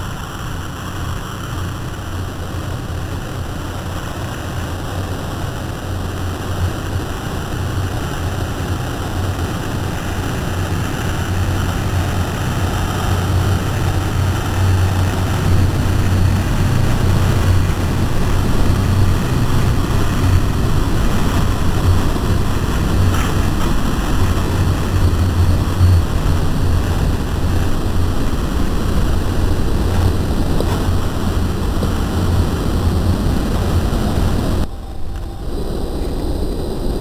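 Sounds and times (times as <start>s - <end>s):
hiss: 0.0s - 34.6s
dense rumbling drone: 0.0s - 37.0s.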